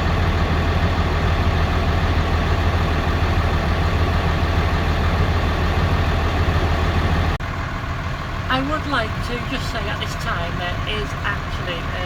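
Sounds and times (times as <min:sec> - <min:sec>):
loader engine running: 0:00.0 - 0:12.0.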